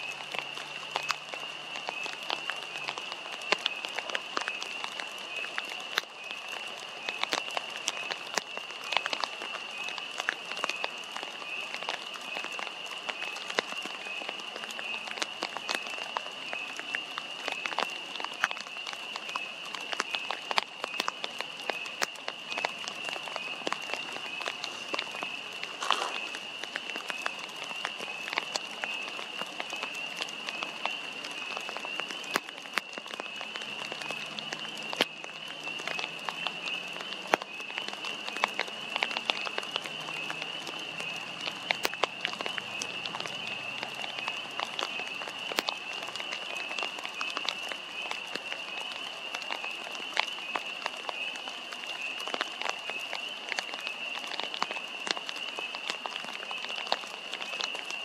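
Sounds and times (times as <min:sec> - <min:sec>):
rain falling: 0:00.0 - 0:58.0
raindrops ticking on poncho: 0:00.0 - 0:58.0.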